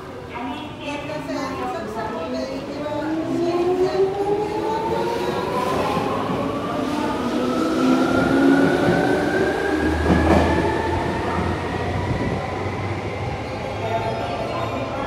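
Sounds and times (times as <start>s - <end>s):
train cars and wheels rumbling: 1.7s - 15.0s
subway traction motor whine: 2.7s - 15.0s.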